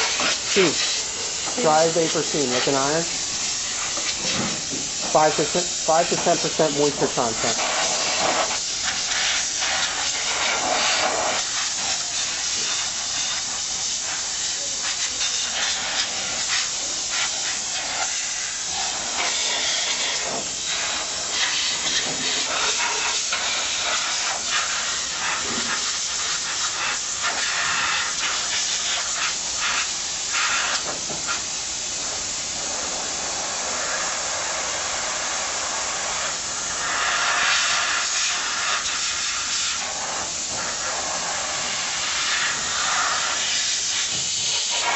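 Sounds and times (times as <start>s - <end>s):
steam cleaner hissing: 0.0s - 44.9s.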